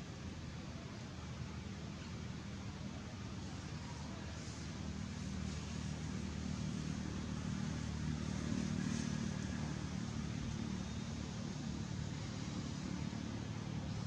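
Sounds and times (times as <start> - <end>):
faint hiss: 0.0 - 14.0
engine humming: 2.7 - 14.0.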